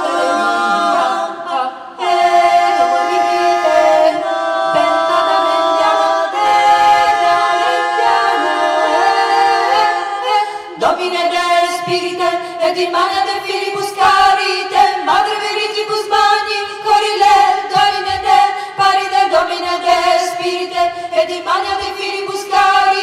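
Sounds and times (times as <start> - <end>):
female vocal ensemble singing: 0.0 - 23.0.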